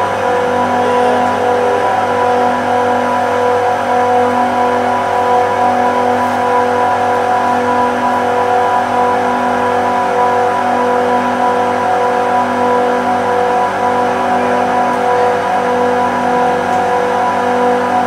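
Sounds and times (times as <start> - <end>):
compressors humming: 0.0 - 18.0.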